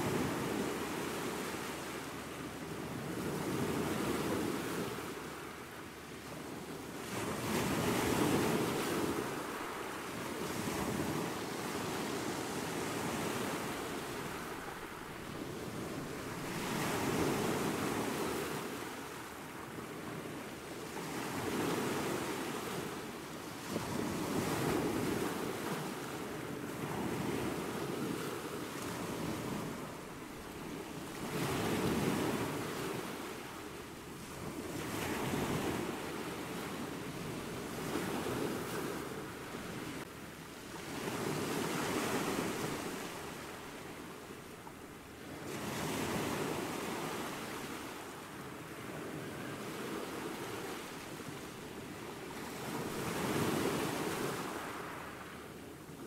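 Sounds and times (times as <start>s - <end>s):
small waves breaking on a beach: 0.0s - 56.0s.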